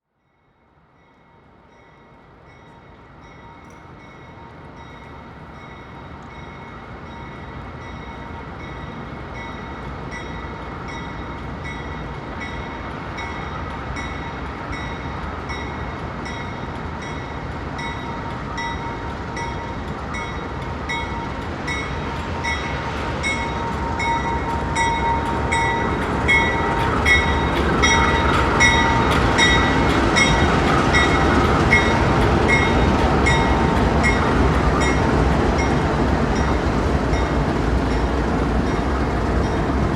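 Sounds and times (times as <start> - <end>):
train rumble: 0.8 - 39.9.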